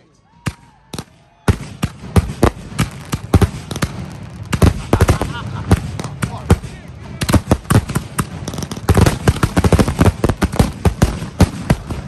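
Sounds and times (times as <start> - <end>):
fireworks bursting: 0.4 - 12.0.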